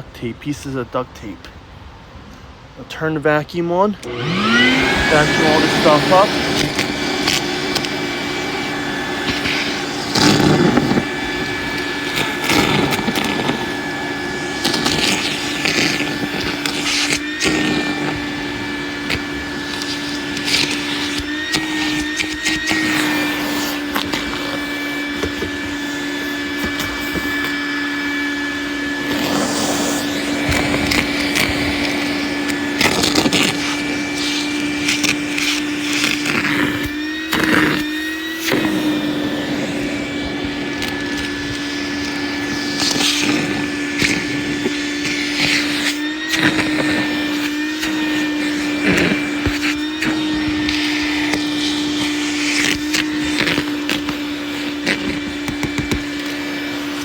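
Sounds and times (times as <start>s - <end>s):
vacuum cleaner running: 3.8s - 57.0s
debris rattling in vacuum: 4.1s - 57.0s.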